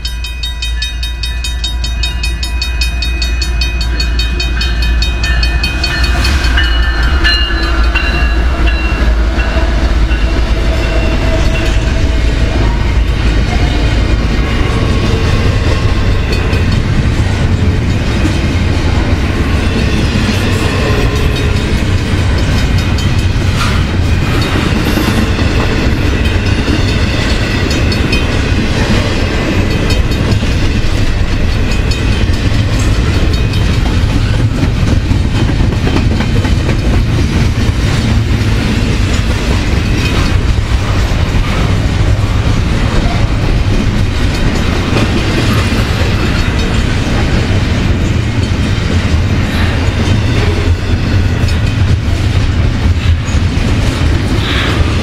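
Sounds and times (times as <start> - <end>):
freight train wheels rumbling: 0.0 - 55.0
wheels clacking over rail joints: 3.4 - 55.0.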